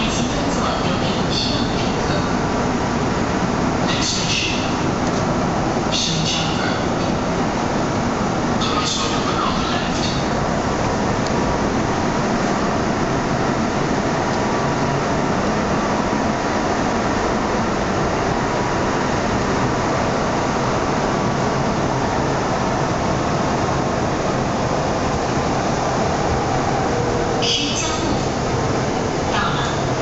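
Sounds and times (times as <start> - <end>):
train wheels on rail: 0.0 - 30.0.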